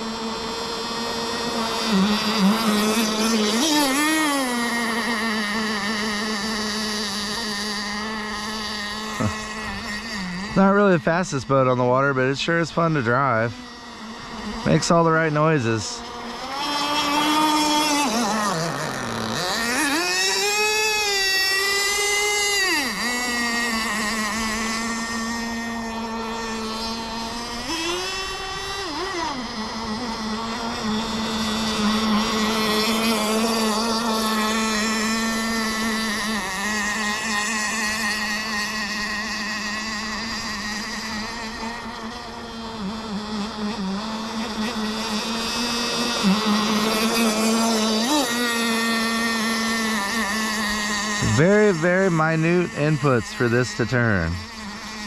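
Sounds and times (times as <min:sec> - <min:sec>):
model boat engine revving: 0:00.0 - 0:55.0.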